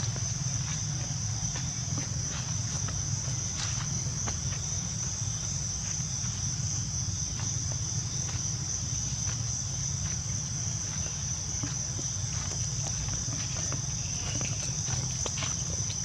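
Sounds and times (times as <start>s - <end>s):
shrill insect chorus: 0.0s - 16.0s.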